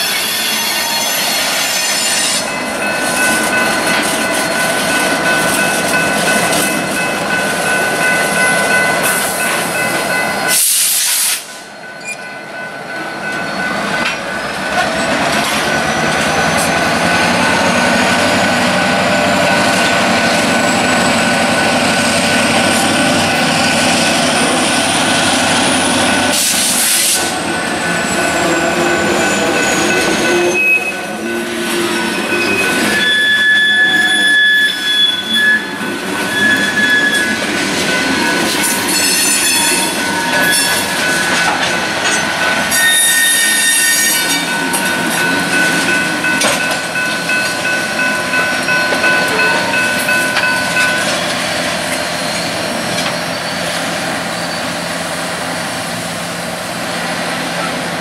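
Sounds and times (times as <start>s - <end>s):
steel wheels squealing: 0.0s - 12.4s, 13.2s - 56.1s
freight train rumble: 0.0s - 58.0s.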